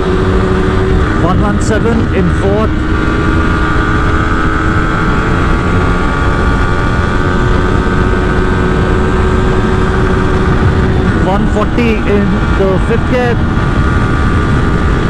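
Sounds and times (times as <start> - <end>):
motorcycle engine at high revs: 0.0 - 15.0
wind rush on microphone: 0.0 - 15.0.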